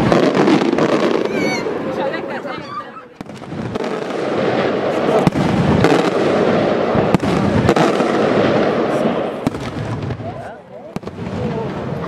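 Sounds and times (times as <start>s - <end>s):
fireworks crackling: 0.0s - 12.0s
sharp firework reports: 0.0s - 12.0s.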